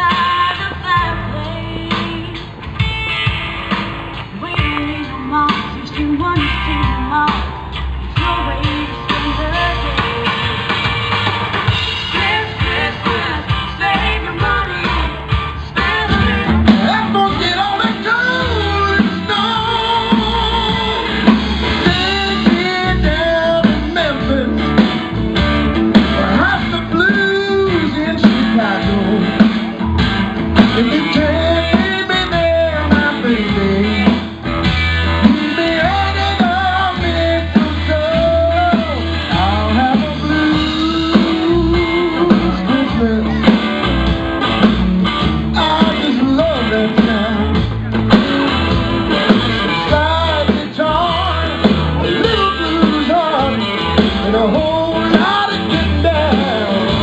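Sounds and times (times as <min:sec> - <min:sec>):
person singing: 0:00.0 - 0:02.6, 0:04.3 - 0:10.8, 0:12.0 - 0:25.1, 0:25.9 - 0:30.0, 0:30.6 - 0:34.4, 0:35.1 - 0:43.9, 0:45.4 - 0:57.0
guitar: 0:00.0 - 0:57.0
live blues band playing: 0:00.0 - 0:57.0.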